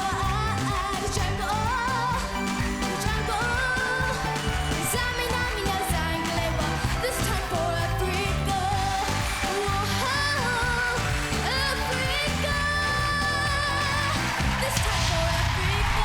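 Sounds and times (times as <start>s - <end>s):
backing band bass and drums: 0.0s - 16.0s
person singing pop song: 0.0s - 16.0s.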